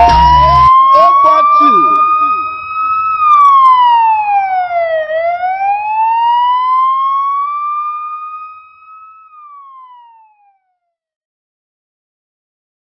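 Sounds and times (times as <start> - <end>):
siren wailing: 0.0 - 10.6.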